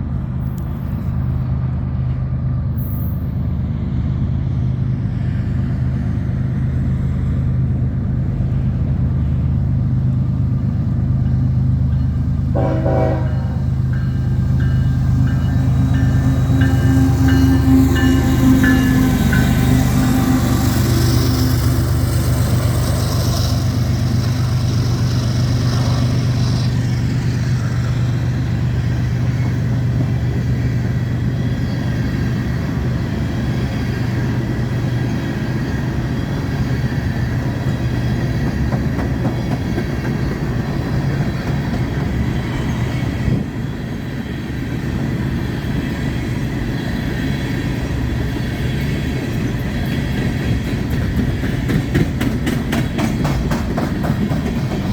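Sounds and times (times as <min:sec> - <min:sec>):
diesel locomotive drone: 0:00.0 - 0:54.9
train wheels clattering on rails: 0:08.5 - 0:54.9.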